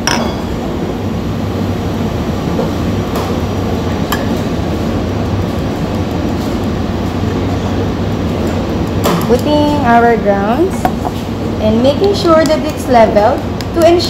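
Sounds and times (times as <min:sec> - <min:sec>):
low background rumble and hum: 0:00.0 - 0:14.0.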